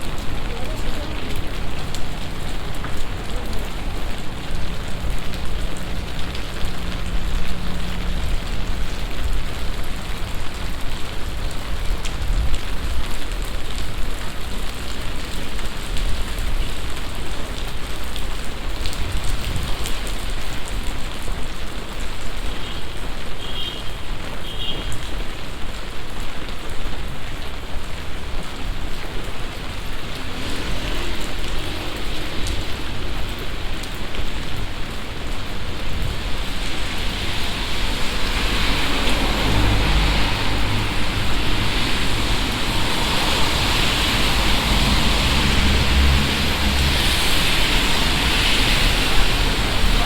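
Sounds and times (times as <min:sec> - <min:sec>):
heavy rain pattering: 0:00.0 - 0:50.0.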